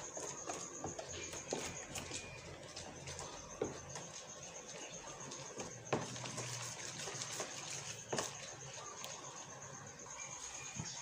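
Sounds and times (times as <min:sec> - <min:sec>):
spoon stirring wet batter: 0:00.0 - 0:09.8.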